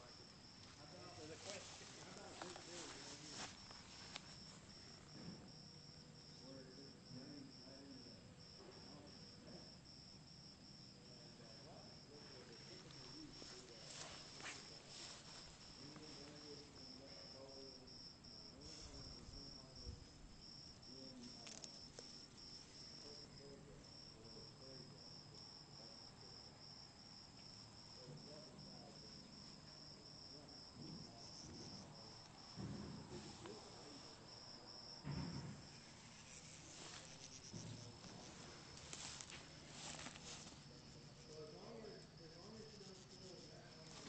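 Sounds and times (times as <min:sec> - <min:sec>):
cricket chirping: 0:00.0 - 0:44.0.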